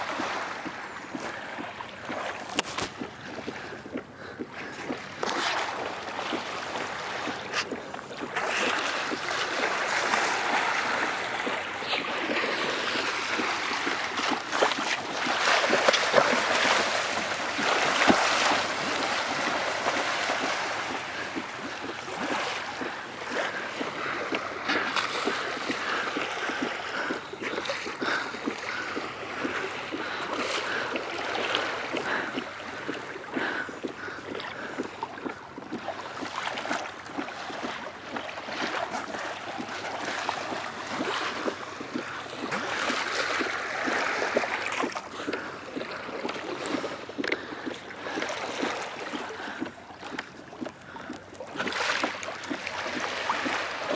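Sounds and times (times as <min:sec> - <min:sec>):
water splashing against kayak hull: 0:00.0 - 0:53.9.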